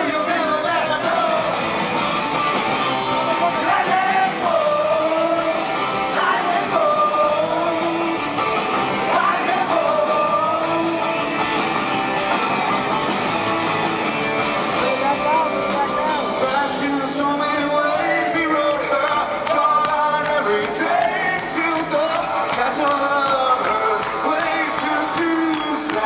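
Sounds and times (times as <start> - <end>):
lead vocal singing: 0.0 - 1.9, 3.1 - 11.7, 14.7 - 26.0
live rock band playing: 0.0 - 26.0.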